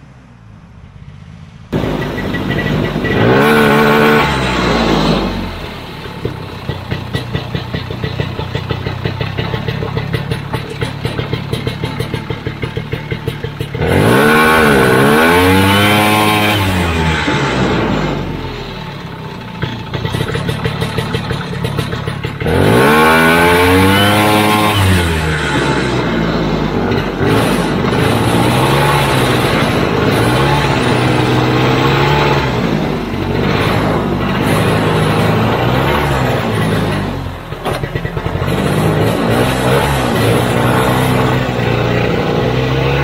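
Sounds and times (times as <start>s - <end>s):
snowmobile two-stroke engine: 1.7s - 43.0s.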